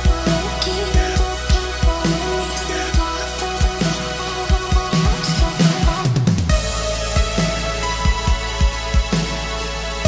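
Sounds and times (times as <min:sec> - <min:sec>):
bass sweep falling: 0:00.0 - 0:10.0
sub-bass and synth chord: 0:00.0 - 0:10.0.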